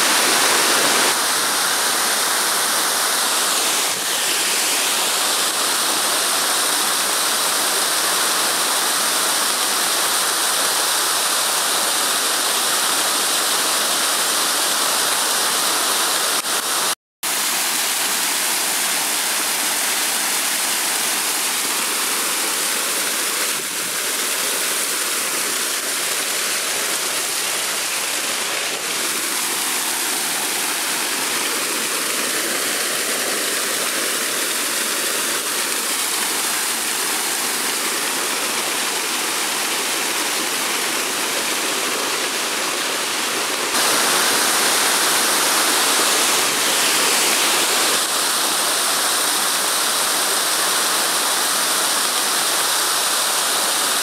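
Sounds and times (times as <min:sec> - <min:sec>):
waterfall pouring over rock: 0:00.0 - 0:54.0.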